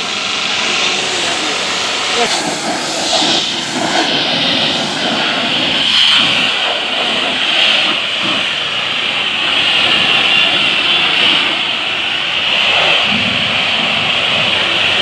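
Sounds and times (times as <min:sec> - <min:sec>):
pressure washer spraying: 0:00.0 - 0:14.9.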